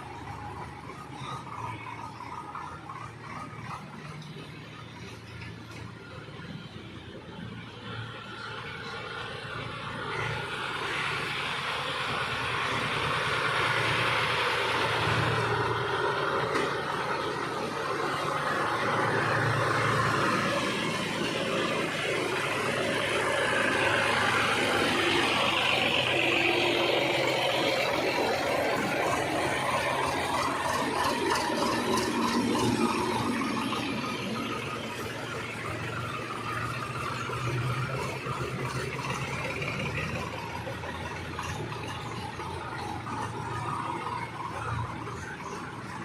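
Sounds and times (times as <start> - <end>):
tractor engine running: 0.0 - 46.0.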